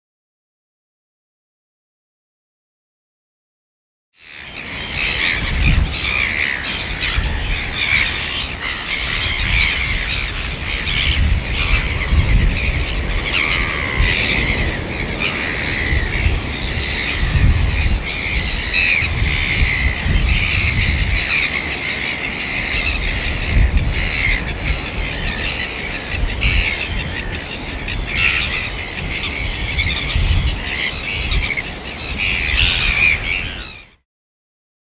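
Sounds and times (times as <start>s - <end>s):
gulls squawking: 4.2s - 34.0s.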